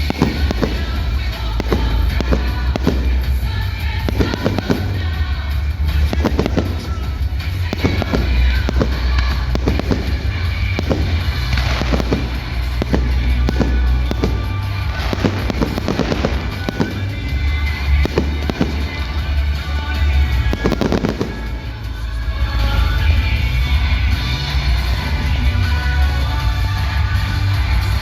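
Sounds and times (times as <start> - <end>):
loud bass-heavy music: 0.0 - 27.3
fireworks bursts and bangs: 0.0 - 28.0.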